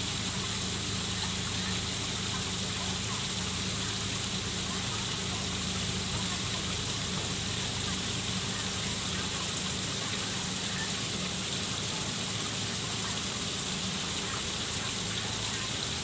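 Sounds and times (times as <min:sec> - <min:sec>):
waterfall splashing into pond: 0:00.0 - 0:16.0.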